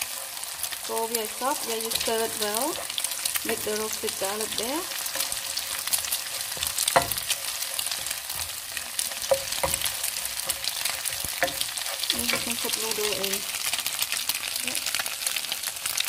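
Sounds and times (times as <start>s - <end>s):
egg sizzling in frying pan: 0.0s - 16.0s.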